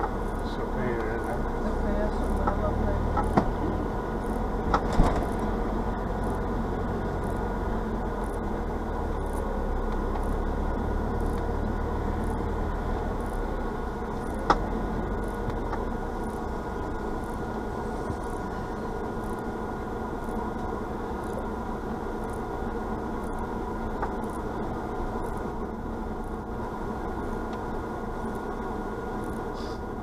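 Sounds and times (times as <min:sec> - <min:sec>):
vehicle engine and tyres rumble: 0:00.0 - 0:30.0.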